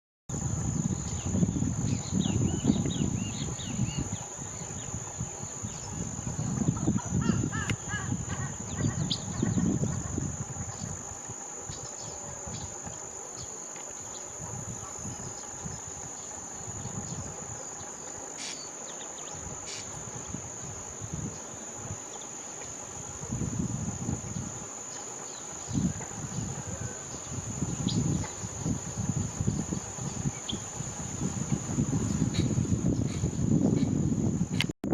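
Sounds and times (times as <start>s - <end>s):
high-pitched insect drone: 0.3s - 34.6s
wind rumbling on microphone: 0.3s - 34.9s.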